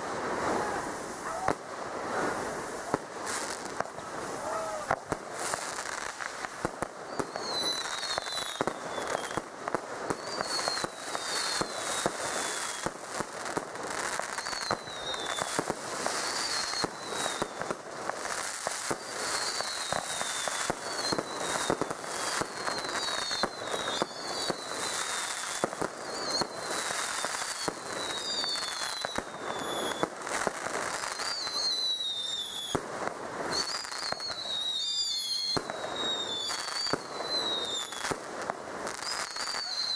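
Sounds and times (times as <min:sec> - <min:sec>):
falling firework whistles: 0:00.0 - 0:39.9
firework bangs and crackling: 0:00.0 - 0:39.9.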